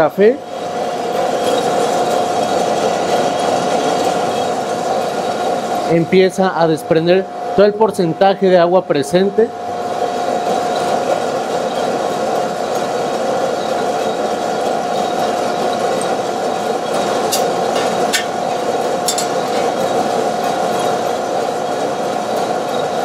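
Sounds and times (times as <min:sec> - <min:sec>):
motor and fan humming: 0:00.0 - 0:23.0.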